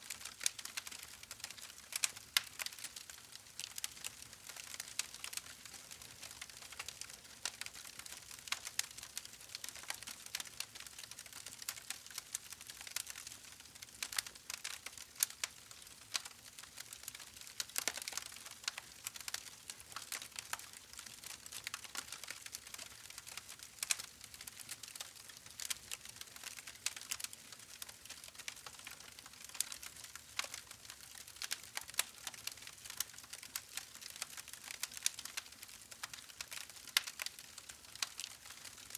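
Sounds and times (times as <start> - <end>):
wood fire crackling: 0.1 - 38.9.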